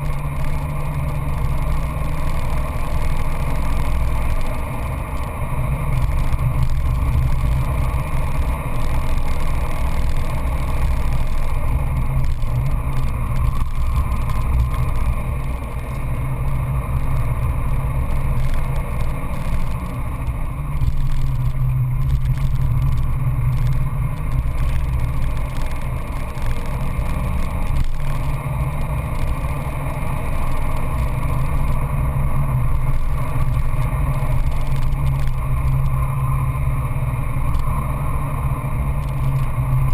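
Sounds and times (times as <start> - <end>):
car engine running hard: 0.0 - 39.9
tyre and wind noise: 0.0 - 39.9.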